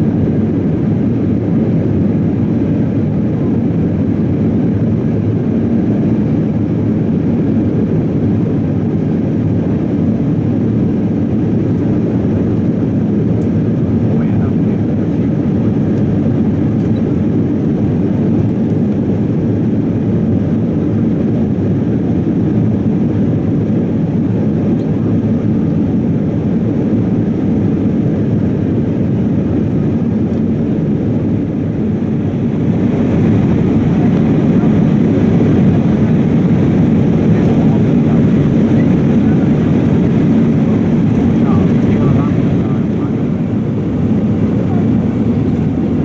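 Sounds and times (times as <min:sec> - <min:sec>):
airplane cabin roar: 0:00.0 - 0:46.0.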